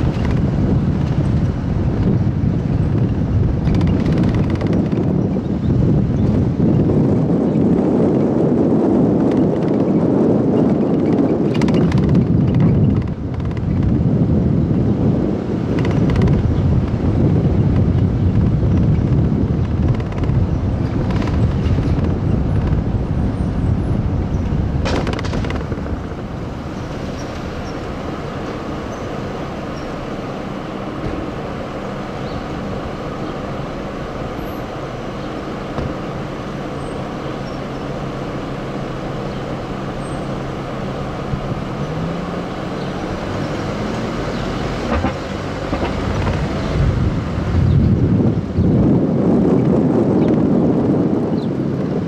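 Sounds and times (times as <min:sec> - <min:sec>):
street traffic: 0:00.0 - 0:52.0
vehicle engine humming: 0:00.0 - 0:52.0
wind on microphone: 0:00.0 - 0:52.0.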